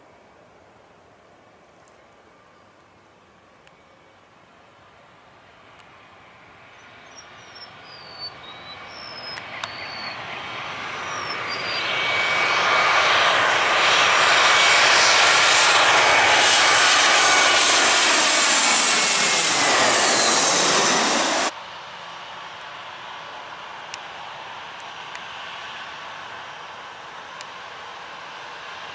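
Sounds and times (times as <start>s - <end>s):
airliner engines passing overhead: 0.0s - 28.9s.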